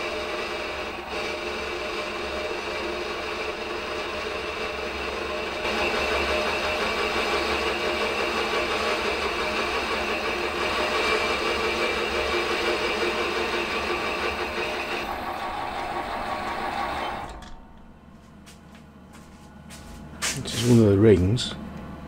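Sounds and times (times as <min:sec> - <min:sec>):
metal lathe whirring: 0:00.0 - 0:18.0.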